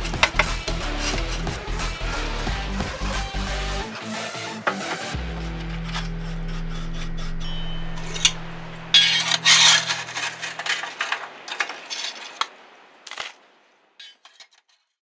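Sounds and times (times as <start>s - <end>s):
metal scraping and rattling: 0.0s - 3.2s, 3.8s - 13.4s, 14.0s - 14.8s.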